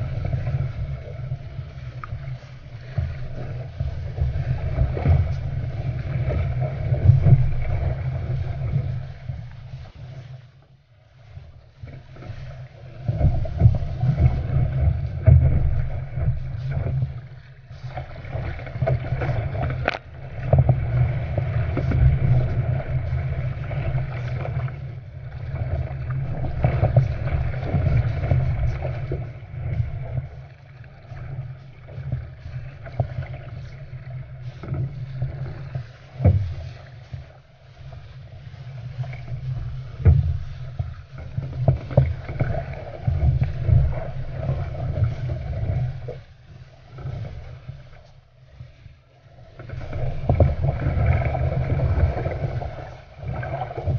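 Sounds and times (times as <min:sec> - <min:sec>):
wind rumbling on microphone: 0:00.0 - 0:10.6, 0:11.2 - 0:53.9
water splashing along boat hull: 0:00.0 - 0:53.9.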